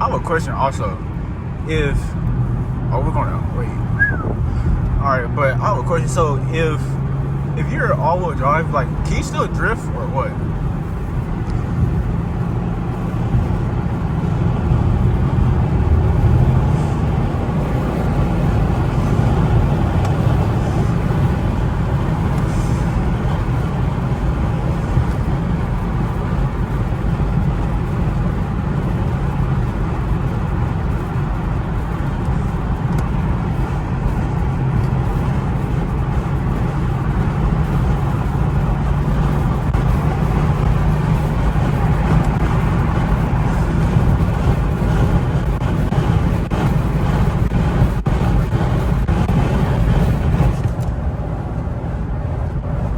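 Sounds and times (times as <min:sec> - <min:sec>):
road and engine rumble in car: 0:00.0 - 0:52.9.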